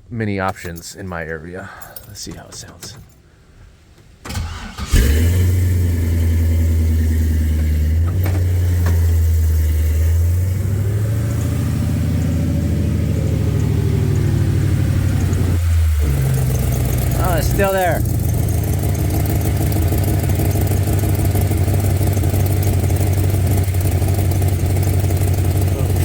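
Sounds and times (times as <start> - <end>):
car engine cranking and starting: 4.0 - 26.0
engine fast idle with exhaust leak: 4.3 - 26.0.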